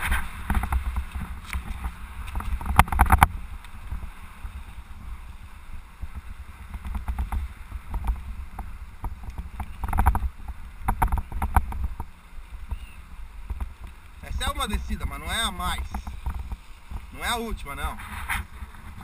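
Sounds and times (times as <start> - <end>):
bike rattling over bumps: 0.0 - 5.1, 6.0 - 12.8, 13.4 - 19.0
wind rumble on microphone: 0.0 - 19.0.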